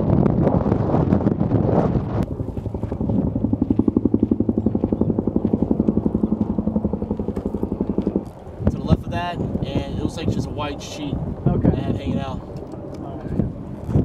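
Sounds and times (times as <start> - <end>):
helicopter rotor beating: 0.0 - 14.0.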